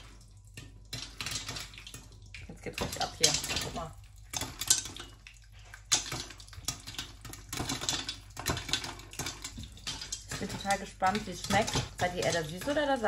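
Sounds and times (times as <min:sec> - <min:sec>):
faint oil sizzle: 0:00.0 - 0:13.0
popcorn popping: 0:00.0 - 0:13.0.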